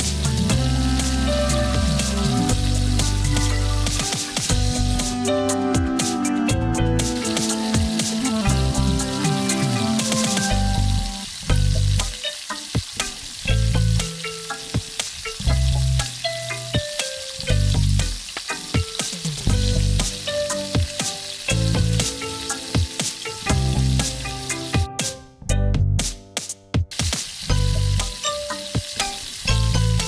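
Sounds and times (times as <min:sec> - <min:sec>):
curry sizzling in a pan: 0:00.0 - 0:25.3, 0:26.9 - 0:30.0
background music with deep bass: 0:00.0 - 0:30.0.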